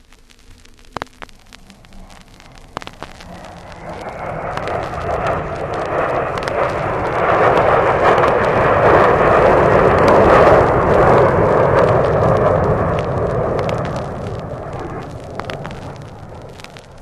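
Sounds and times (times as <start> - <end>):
vinyl record crackle and pops: 0.0 - 17.0
aircraft engine roar: 1.6 - 17.0.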